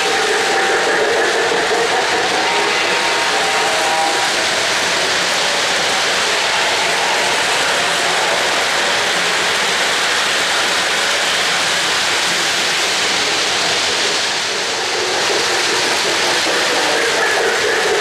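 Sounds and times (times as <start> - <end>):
model train wheels rolling on track: 0.0 - 18.0.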